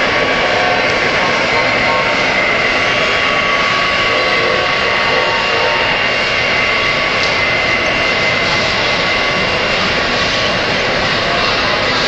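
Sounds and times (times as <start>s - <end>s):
steady high tones: 0.0s - 11.0s
model train rumble: 0.0s - 12.0s.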